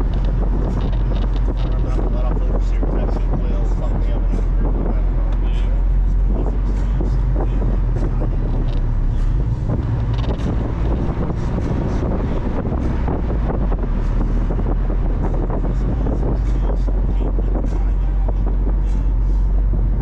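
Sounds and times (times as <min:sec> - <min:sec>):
car engine: 0:00.0 - 0:20.0
road noise: 0:00.0 - 0:20.0
wind buffeting microphone: 0:00.0 - 0:20.0.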